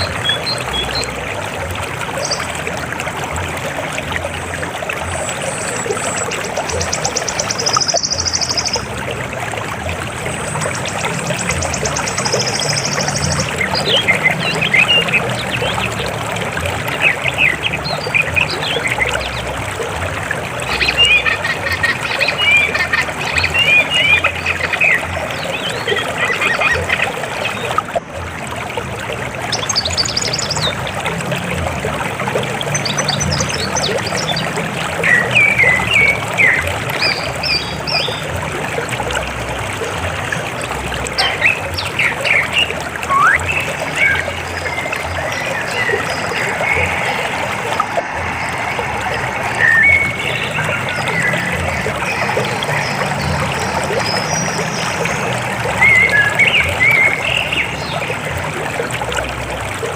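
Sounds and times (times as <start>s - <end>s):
river water rushing: 0.0s - 59.9s
water trickling and gurgling: 0.0s - 59.9s.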